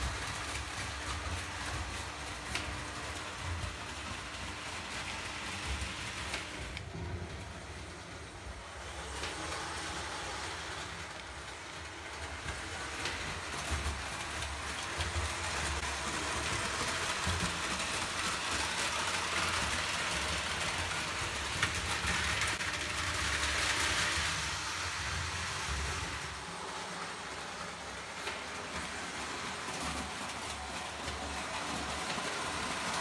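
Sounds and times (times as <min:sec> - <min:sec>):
toy train whirring on rails: 0:00.0 - 0:33.0.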